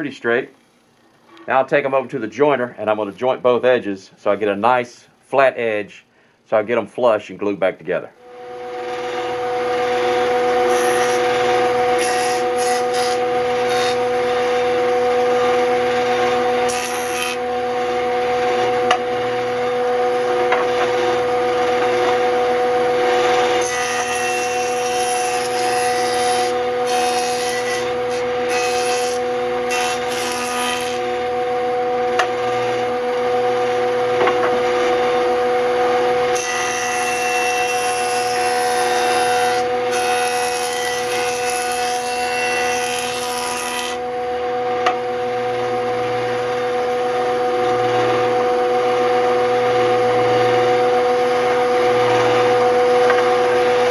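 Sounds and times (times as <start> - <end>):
jointer cutting wood: 8.2 - 53.9
jointer whining: 8.2 - 53.9.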